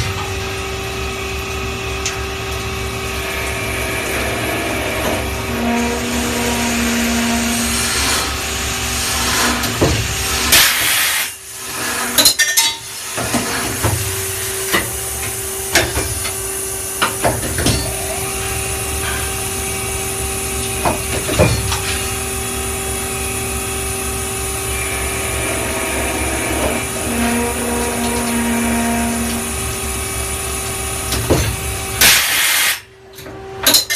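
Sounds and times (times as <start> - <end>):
lathe machine hum and whine: 0.0 - 10.5, 12.9 - 32.0.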